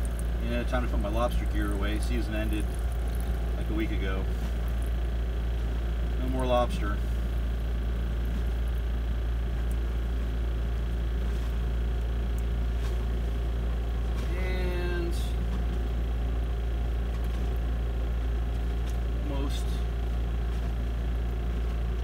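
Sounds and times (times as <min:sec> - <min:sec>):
spin dryer humming: 0:00.0 - 0:22.0.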